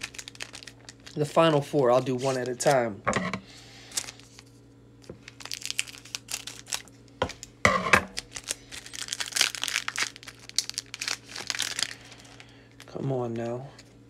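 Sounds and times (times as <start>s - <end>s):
foil wrapper crinkling and tearing: 0.0s - 2.9s, 3.8s - 13.6s.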